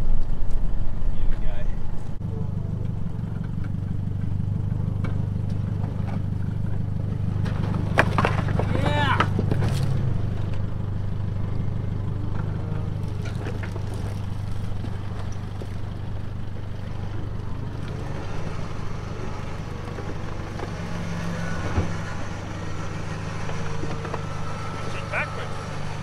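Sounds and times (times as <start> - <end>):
diesel engine running at low revs: 0.0 - 26.0.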